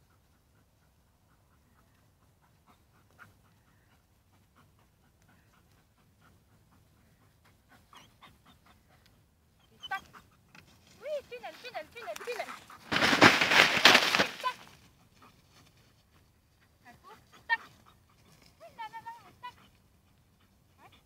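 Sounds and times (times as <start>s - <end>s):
dog panting: 0.0s - 12.8s, 14.8s - 21.0s.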